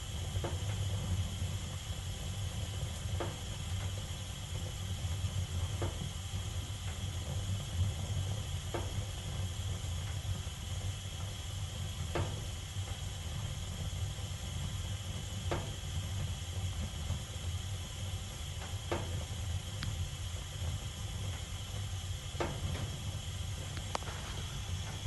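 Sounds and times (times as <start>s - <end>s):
gas burners rumbling: 0.0s - 25.0s.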